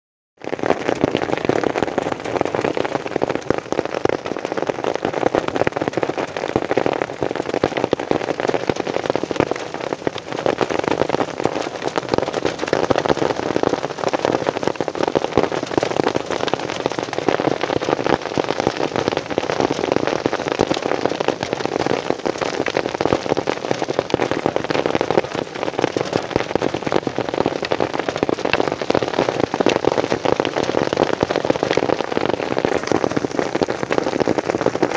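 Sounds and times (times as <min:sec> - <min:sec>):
hail falling on grass: 0:00.4 - 0:34.9.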